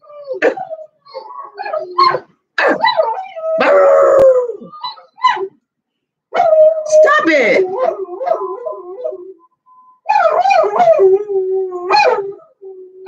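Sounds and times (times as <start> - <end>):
young dog howling: 0.0 - 5.5, 6.4 - 9.4, 10.1 - 13.0.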